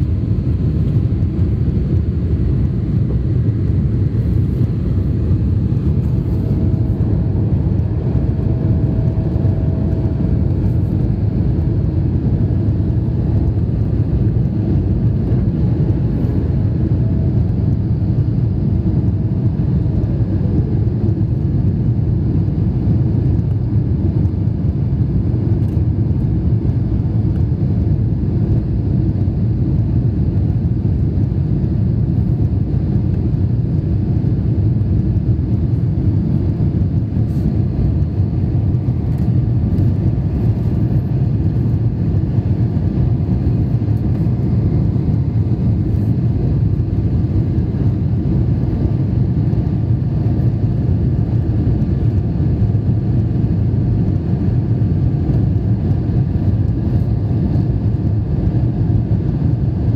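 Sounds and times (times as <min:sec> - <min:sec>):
jet engine cabin roar: 0:00.0 - 0:59.9.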